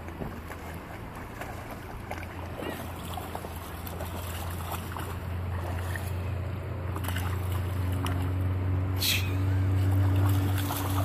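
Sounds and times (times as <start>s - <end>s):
dogs splashing in shallow water: 0.0s - 11.0s
low motor drone: 0.0s - 11.0s.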